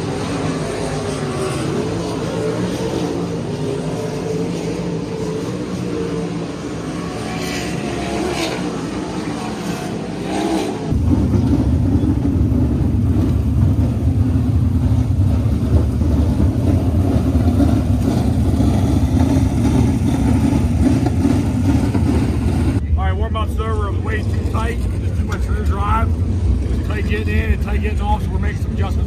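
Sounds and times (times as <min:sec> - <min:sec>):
sprint car engines running: 0:00.0 - 0:29.0.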